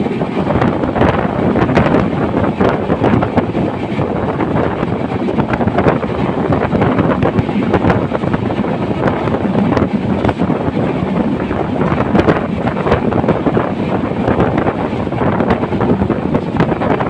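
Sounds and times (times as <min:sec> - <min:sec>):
train rumbling and clattering: 0:00.0 - 0:17.0
wind buffeting microphone: 0:00.0 - 0:17.0.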